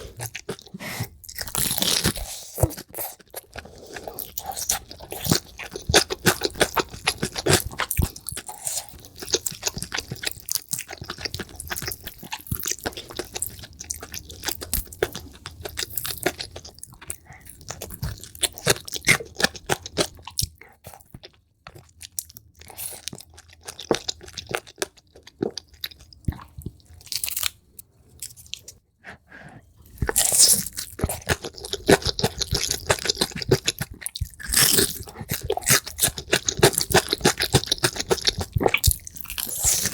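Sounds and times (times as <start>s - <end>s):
crunchy chewing of food: 0.0s - 39.9s.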